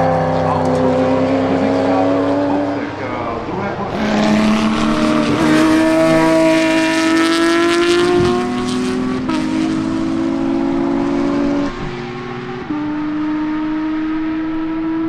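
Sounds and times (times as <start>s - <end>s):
car engine pulling under load: 0.0s - 15.0s.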